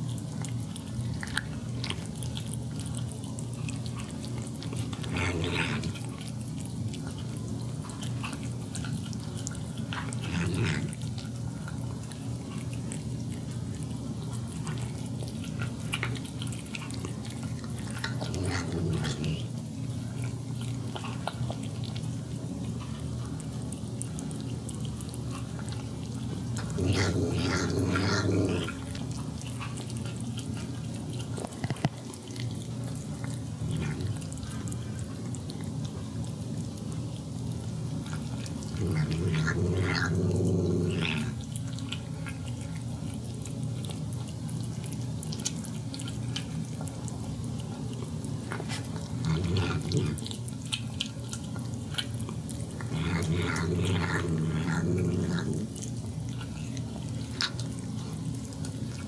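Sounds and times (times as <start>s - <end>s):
wet smacking and licking: 0.0s - 59.0s.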